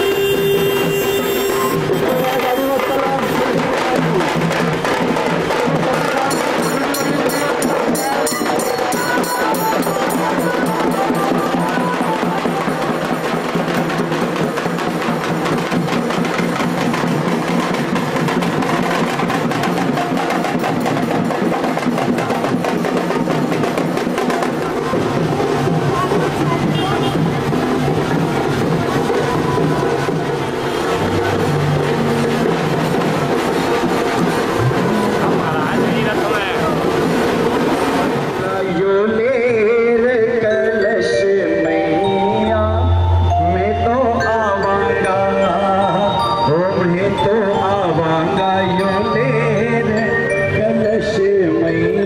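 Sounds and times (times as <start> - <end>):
music with fast percussion: 0.0 - 52.0.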